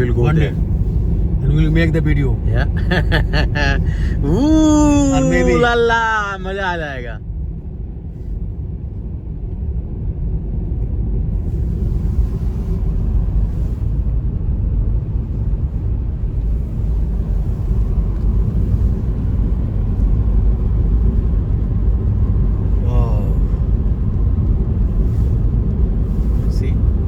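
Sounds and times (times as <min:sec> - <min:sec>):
car road and engine rumble: 0:00.0 - 0:27.0.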